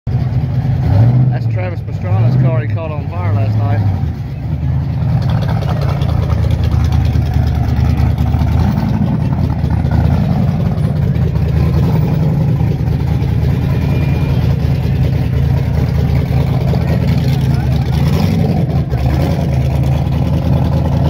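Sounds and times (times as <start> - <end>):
car engine idling: 0.1 - 21.0.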